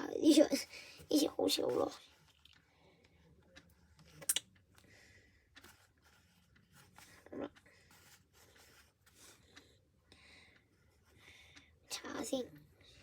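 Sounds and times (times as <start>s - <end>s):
soft ticks: 0.0s - 13.0s.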